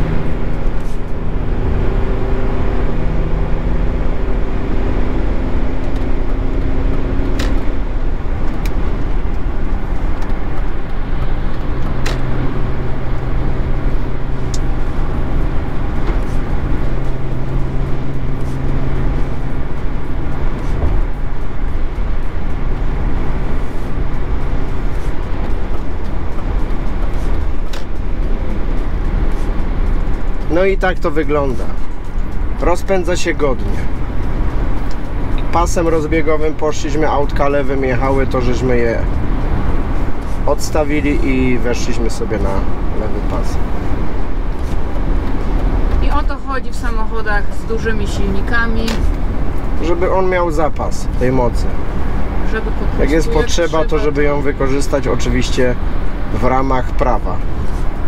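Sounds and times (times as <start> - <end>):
diesel engine accelerating: 0.0 - 58.0
road and wind noise: 0.0 - 58.0.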